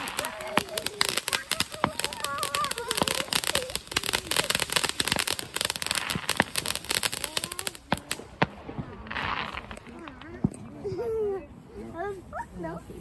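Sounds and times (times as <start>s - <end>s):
fireworks bangs and crackling: 0.0s - 11.6s.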